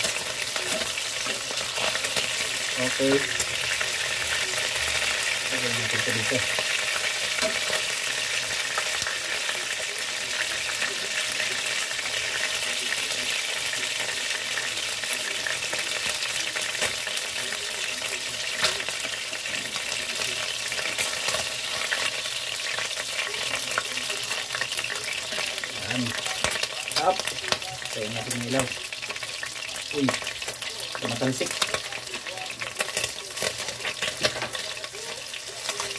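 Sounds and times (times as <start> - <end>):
fish frying in hot oil: 0.0 - 35.9.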